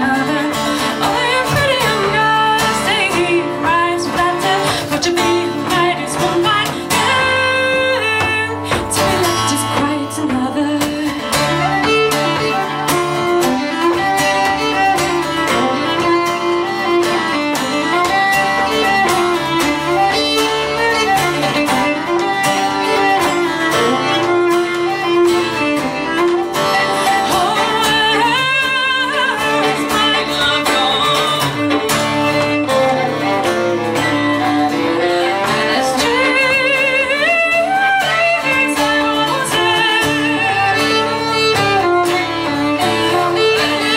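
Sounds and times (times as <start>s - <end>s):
acoustic guitar accompaniment: 0.0s - 43.9s
fiddle playing with vibrato: 0.0s - 43.9s.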